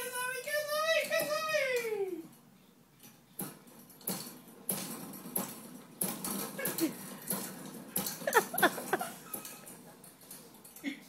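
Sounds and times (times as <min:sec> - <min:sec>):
baby bouncer creaking and clicking: 0:00.0 - 0:11.0.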